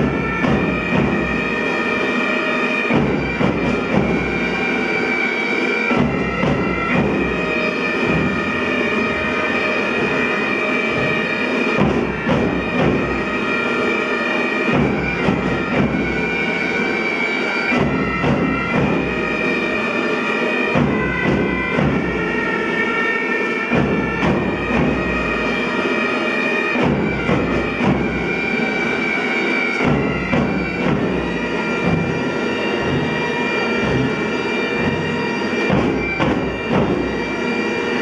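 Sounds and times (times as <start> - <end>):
bagpipes playing: 0.0 - 38.0
drums beating: 0.0 - 38.0.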